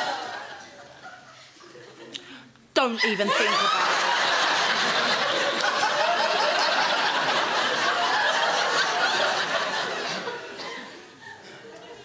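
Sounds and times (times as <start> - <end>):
audience laughing: 0.0 - 2.1, 3.0 - 12.0.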